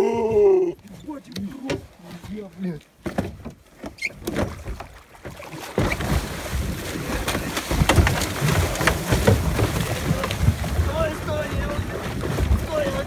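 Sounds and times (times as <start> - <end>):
fish splashing and churning water: 0.0 - 13.0.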